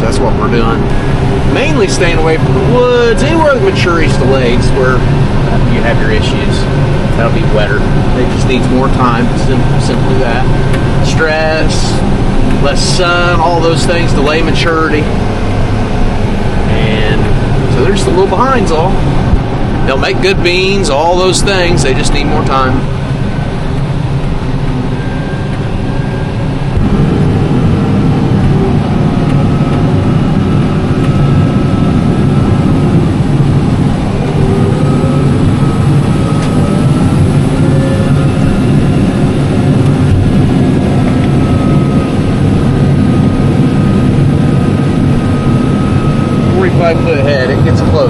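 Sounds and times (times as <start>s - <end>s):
faint machine whine: 0.0s - 48.0s
farm machinery droning: 0.0s - 48.0s.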